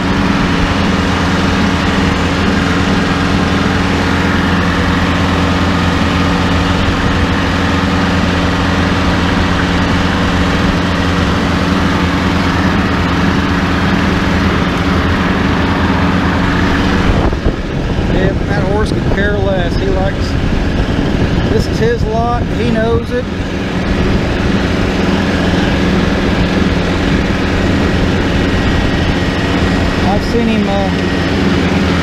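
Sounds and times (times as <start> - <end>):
mower whirring: 0.0 - 32.0
tractor engine droning: 0.0 - 32.0.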